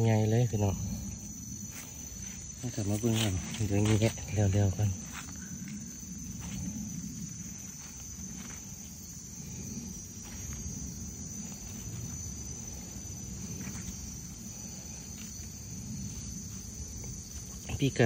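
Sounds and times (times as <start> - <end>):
forest insects chorus: 0.0 - 18.0.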